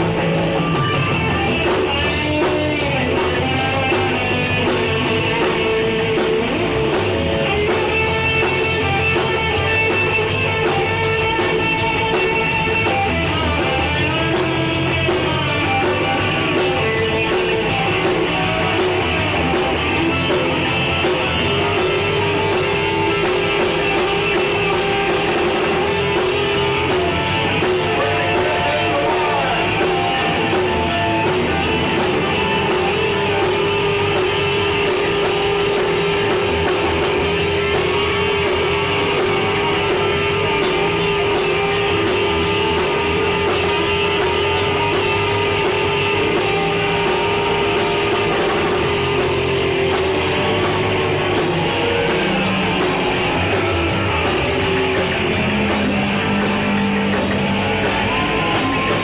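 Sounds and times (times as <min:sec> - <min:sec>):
drums and cymbals: 0:00.0 - 0:59.0
electric guitar long notes: 0:00.0 - 0:59.0.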